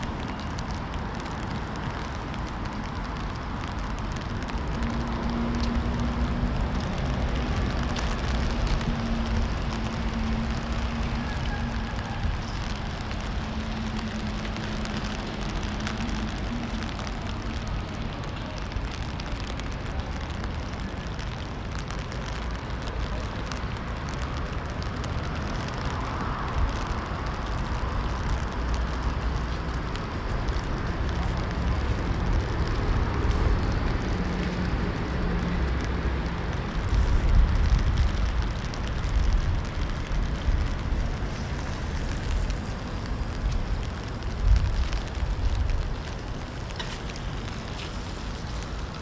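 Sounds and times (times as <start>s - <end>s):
rain on wet paving: 0.0s - 49.0s.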